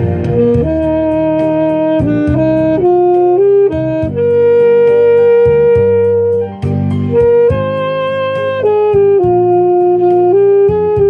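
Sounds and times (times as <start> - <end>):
accompaniment with steady beat: 0.0 - 11.0
saxophone playing ballad melody: 0.0 - 11.0.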